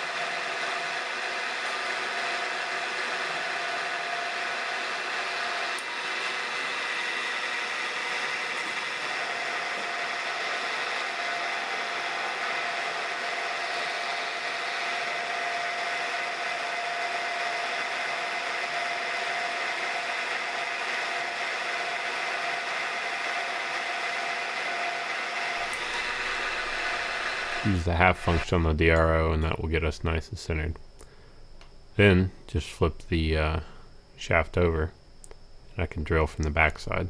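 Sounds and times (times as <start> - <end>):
milling machine spindle whine: 0.0 - 30.6.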